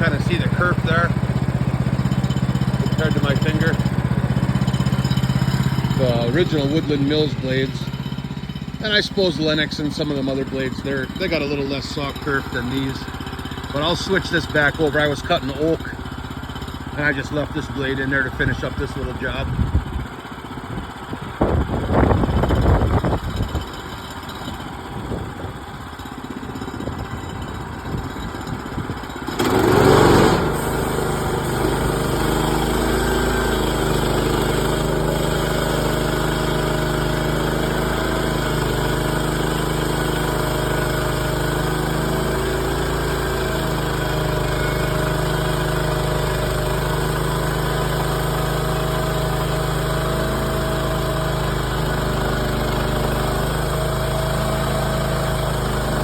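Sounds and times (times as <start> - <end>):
small gasoline engine running: 0.0 - 56.0.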